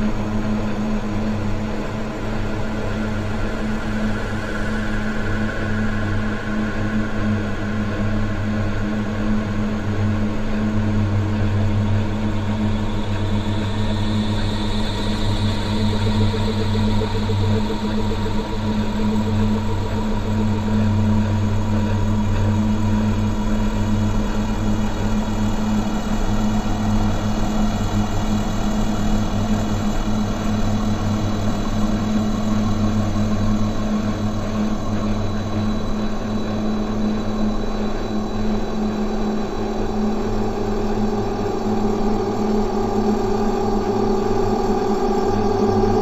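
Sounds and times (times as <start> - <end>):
dark ambient drone music: 0.0 - 46.0.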